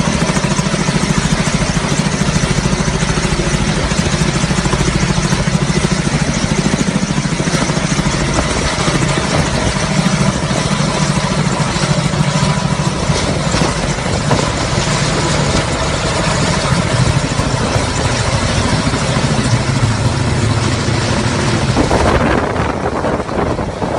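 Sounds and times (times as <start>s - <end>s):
helicopter running: 0.0s - 23.9s.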